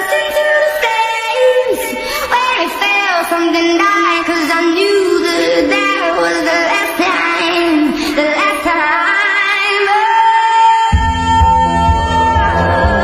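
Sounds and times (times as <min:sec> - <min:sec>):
woman singing over pop music: 0:00.0 - 0:13.0.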